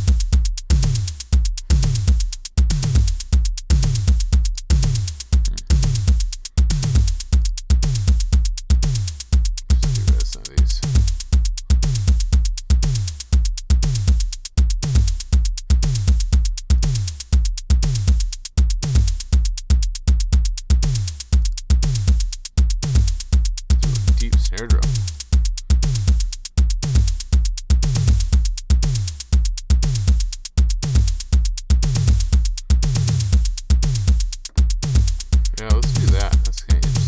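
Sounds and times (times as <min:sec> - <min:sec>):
closed hi-hats: 0:00.0 - 0:37.0
kick drum hits: 0:00.0 - 0:37.0.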